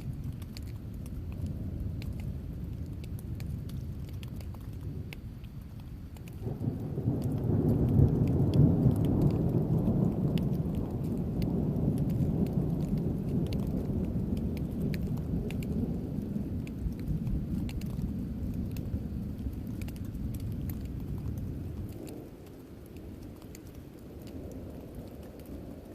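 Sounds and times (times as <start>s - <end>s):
raindrops ticking: 0.0s - 25.9s
rolling thunder rumble: 0.0s - 25.9s.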